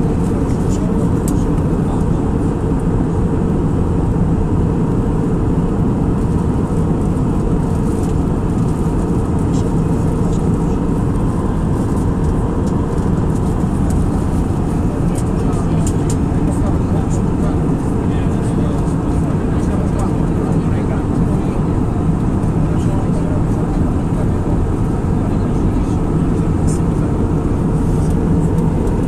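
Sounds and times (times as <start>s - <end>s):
aircraft cabin engine rush: 0.0s - 29.0s.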